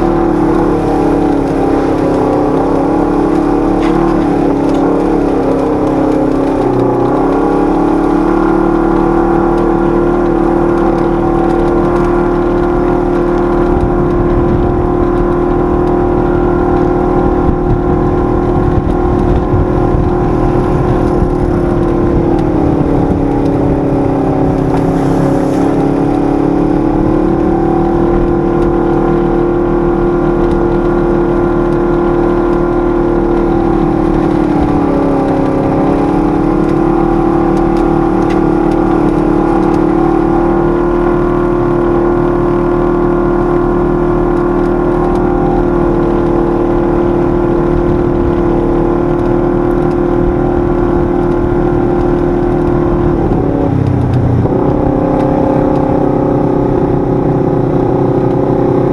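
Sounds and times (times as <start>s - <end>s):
engine running under throttle: 0.0s - 58.9s.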